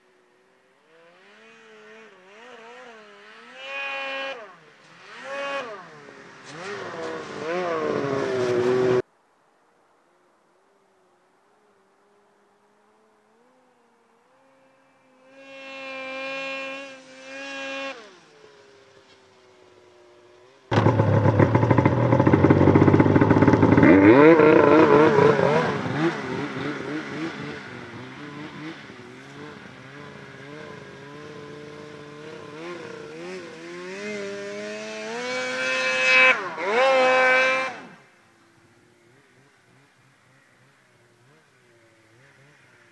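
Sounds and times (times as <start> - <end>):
snowmobile engine revving: 0.8 - 9.0, 14.4 - 19.4, 20.7 - 38.2, 39.0 - 42.9.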